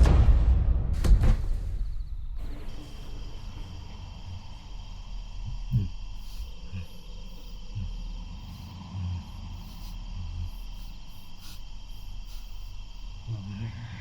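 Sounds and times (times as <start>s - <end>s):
crickets chirring: 1.3s - 14.0s.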